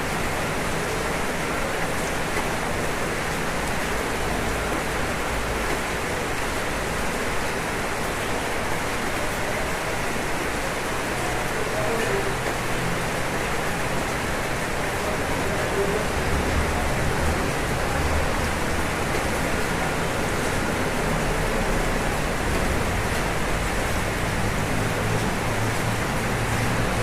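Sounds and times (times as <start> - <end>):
rain falling on a roof: 0.0 - 27.0.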